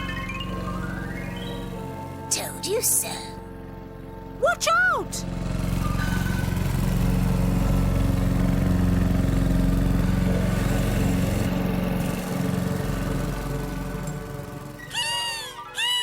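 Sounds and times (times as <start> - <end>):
cartoon vehicle engine running: 0.0 - 16.0.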